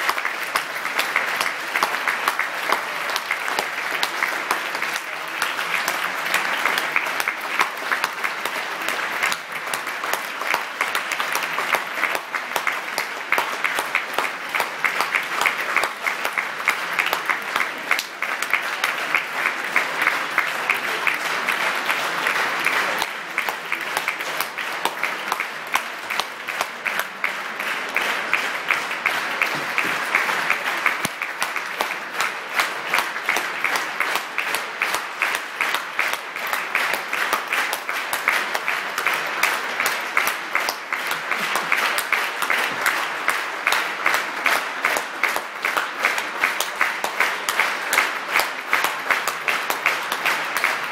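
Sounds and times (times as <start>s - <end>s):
audience applauding: 0.0s - 50.9s.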